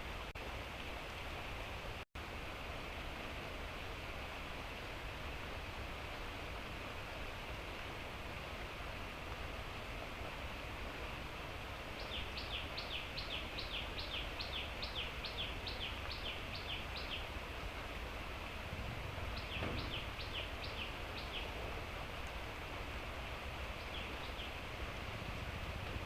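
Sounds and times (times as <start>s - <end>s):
light rain hiss: 0.0s - 26.0s.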